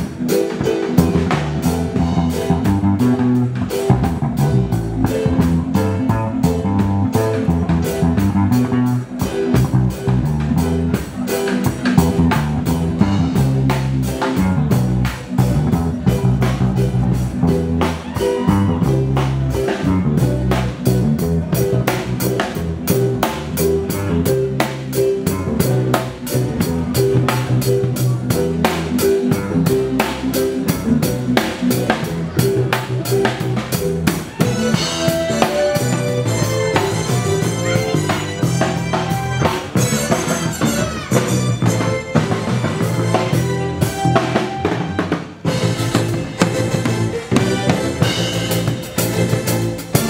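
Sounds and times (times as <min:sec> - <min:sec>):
bass line: 0:00.0 - 0:50.0
drum kit beat: 0:00.0 - 0:50.0
guitar: 0:00.0 - 0:50.0
higher melodic line: 0:00.0 - 0:50.0.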